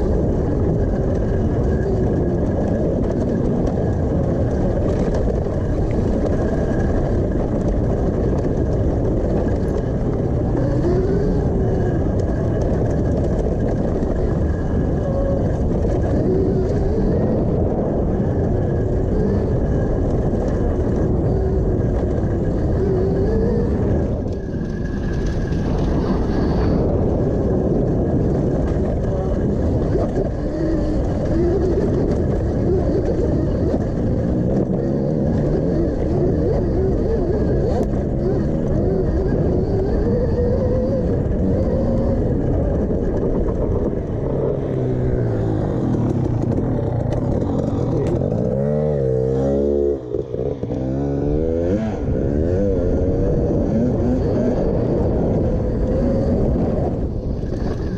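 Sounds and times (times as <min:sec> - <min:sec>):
dirt bike rattling over ground: 0:00.0 - 0:57.9
faint electric motor whine: 0:00.0 - 0:57.9
wind and trail noise: 0:00.0 - 0:57.9.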